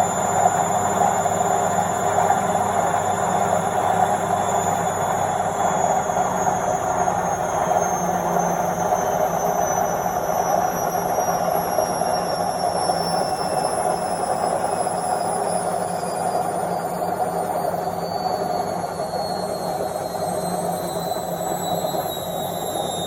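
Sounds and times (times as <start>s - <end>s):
high motor whine: 0.0s - 23.0s.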